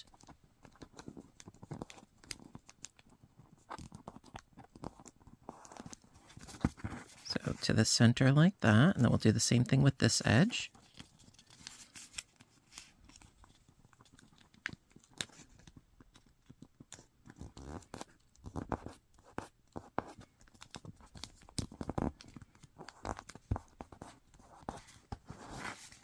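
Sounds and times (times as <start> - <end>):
paper being folded and creased: 0.1 - 7.6, 10.7 - 26.0.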